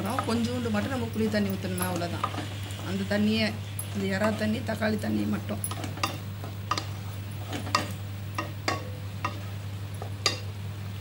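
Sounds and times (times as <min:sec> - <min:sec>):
gravy sizzling faintly: 0:00.0 - 0:11.0
low steady hum: 0:00.0 - 0:11.0.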